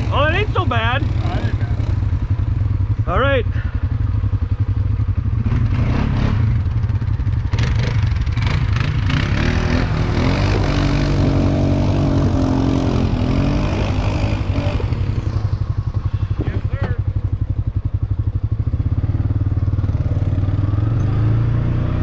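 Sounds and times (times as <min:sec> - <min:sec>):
vehicle engine running: 0:00.0 - 0:21.2.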